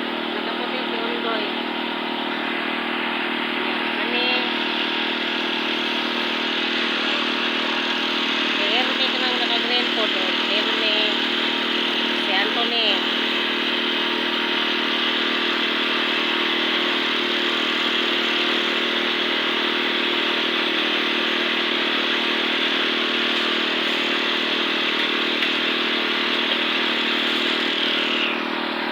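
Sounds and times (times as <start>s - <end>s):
concrete mixer engine running: 0.0s - 28.9s.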